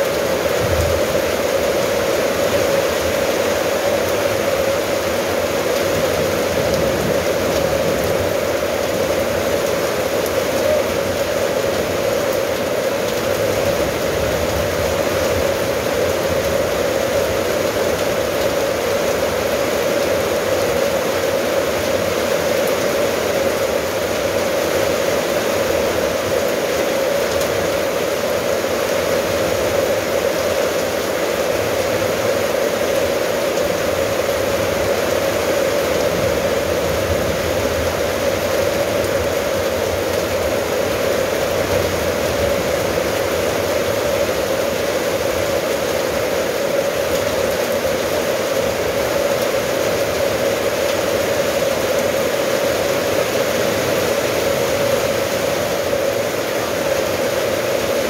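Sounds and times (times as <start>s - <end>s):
rain on metal roof: 0.0s - 58.0s.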